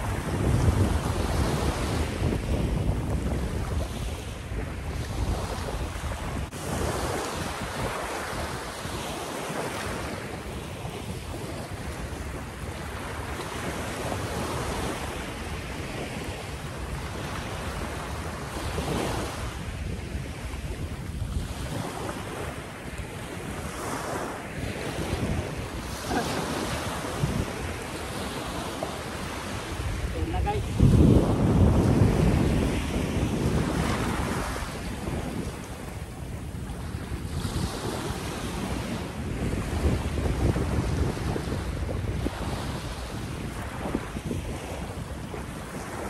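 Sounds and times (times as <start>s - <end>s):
small waves breaking on sand: 0.0s - 46.0s
wind buffeting microphone: 0.0s - 46.0s.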